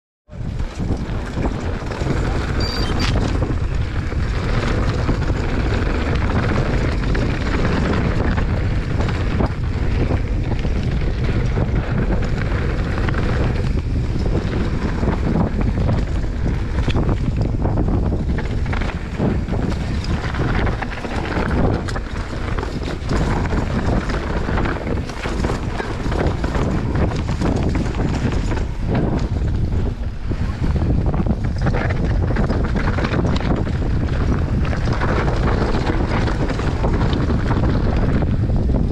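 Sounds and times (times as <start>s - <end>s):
bike tyres on dirt trail: 0.3s - 38.9s
wind buffeting microphone: 0.3s - 38.9s.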